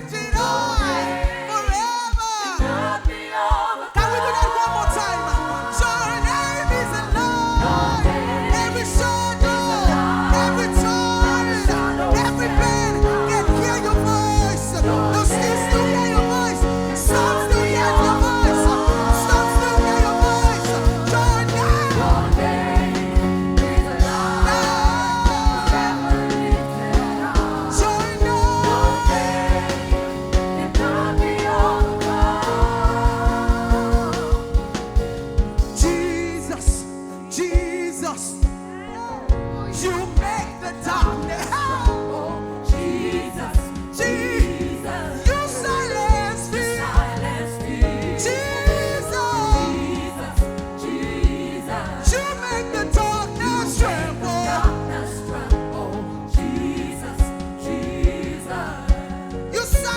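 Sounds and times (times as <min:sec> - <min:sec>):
gospel singers: 0:00.0 - 0:59.9
band with steady drum beat: 0:04.4 - 0:36.9, 0:40.2 - 0:59.9.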